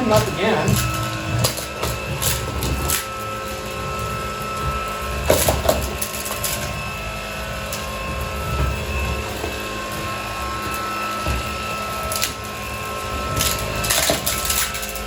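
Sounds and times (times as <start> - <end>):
pebbles clattering in vacuum head: 0.0 - 15.0
vacuum motor whine: 0.0 - 15.0.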